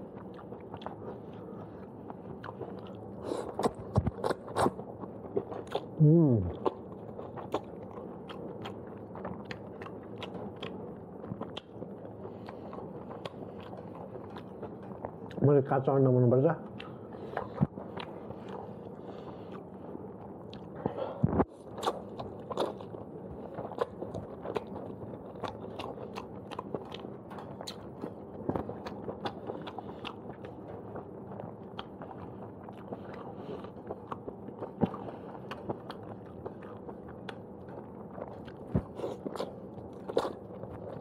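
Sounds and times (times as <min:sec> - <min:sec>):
chewing with mouth clicks: 0:00.0 - 0:15.4, 0:16.6 - 0:41.0.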